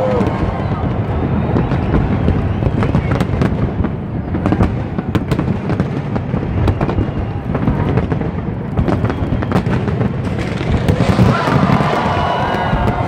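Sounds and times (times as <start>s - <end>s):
firework cracks and bangs: 0.0s - 13.0s.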